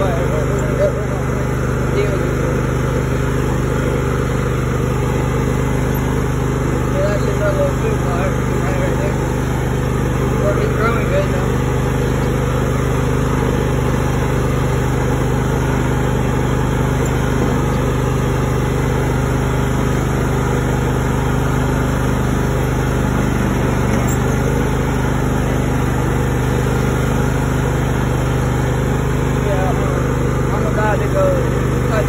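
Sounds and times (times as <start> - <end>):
riding mower engine running: 0.0 - 32.0.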